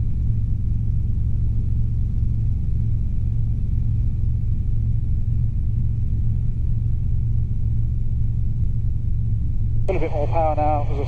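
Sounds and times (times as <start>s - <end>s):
helicopter engine and rotors droning: 0.0s - 11.0s.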